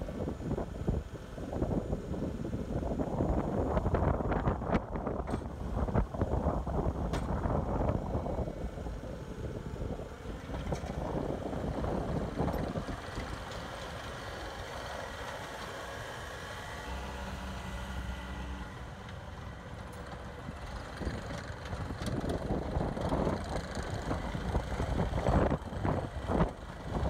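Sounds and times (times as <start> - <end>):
track loader diesel engine: 0.0 - 27.0.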